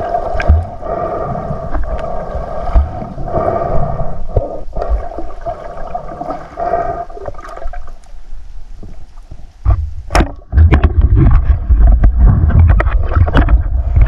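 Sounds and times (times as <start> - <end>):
underwater gurgling and sloshing: 0.0 - 14.0.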